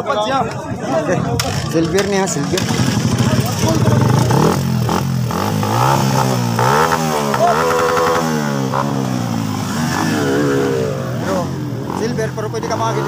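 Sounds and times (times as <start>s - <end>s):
dirt bike engine revving: 1.4s - 13.0s.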